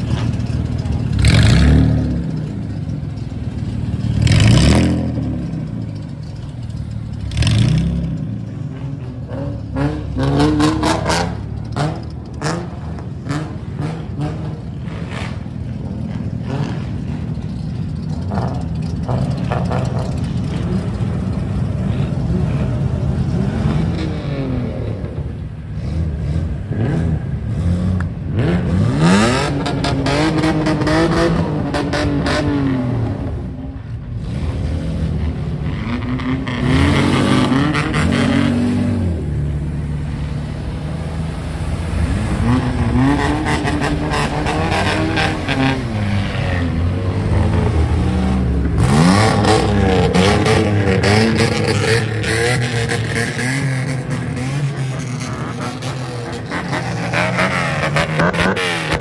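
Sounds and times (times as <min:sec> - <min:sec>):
car engines revving loudly: 0:00.0 - 0:59.0
engines idling: 0:00.0 - 0:59.0.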